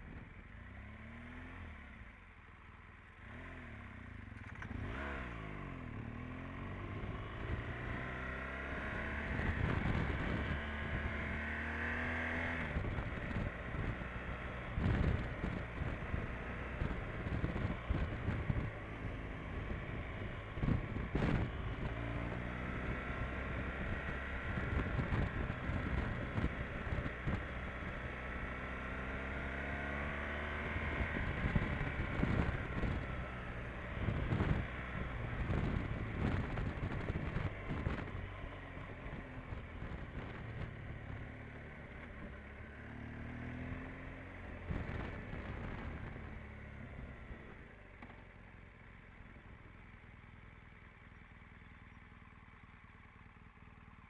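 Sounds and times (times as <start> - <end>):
wind and road noise: 0.0 - 54.0
motorcycle engine revving: 3.1 - 50.2.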